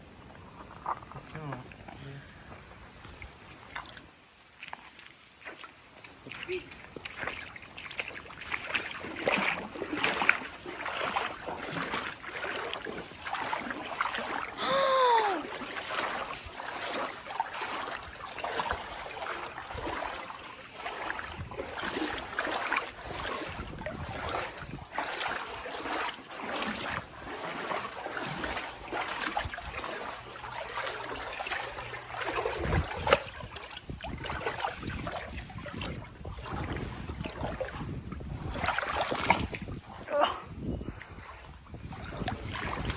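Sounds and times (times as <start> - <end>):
creek water splashing and trickling: 0.0 - 42.9.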